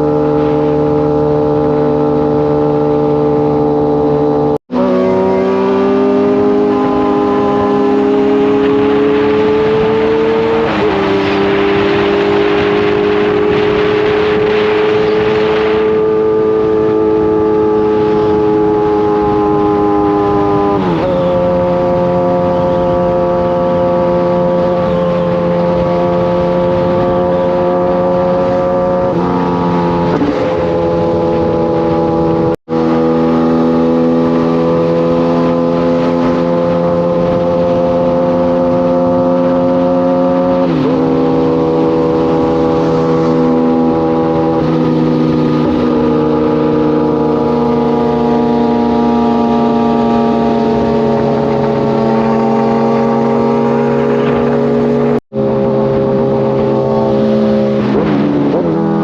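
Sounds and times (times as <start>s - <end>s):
motorcycle engine shifting gears: 0.0s - 59.0s.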